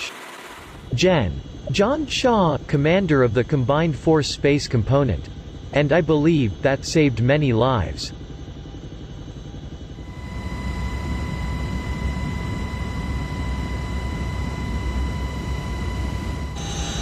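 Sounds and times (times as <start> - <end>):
high whine: 0.0 - 17.0.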